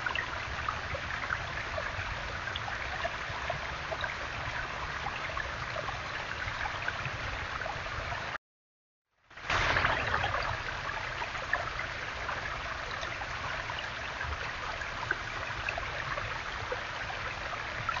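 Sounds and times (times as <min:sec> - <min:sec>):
small waterfall splashing: 0:00.0 - 0:08.4, 0:09.4 - 0:18.0.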